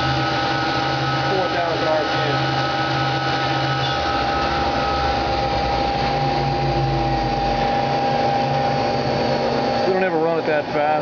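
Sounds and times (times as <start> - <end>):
lathe spindle whine: 0.0 - 11.0
loud machine hum: 0.0 - 11.0.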